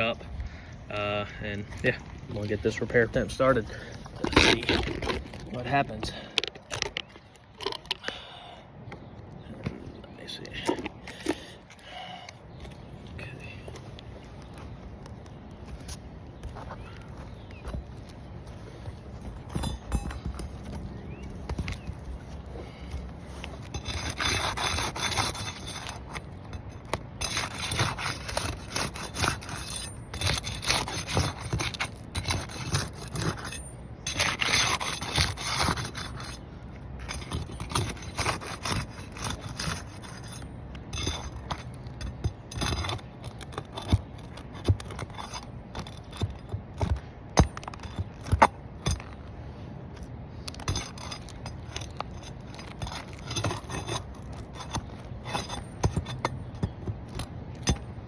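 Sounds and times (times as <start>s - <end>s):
tool scraping roof shingles: 1.7s - 8.2s, 15.7s - 58.0s.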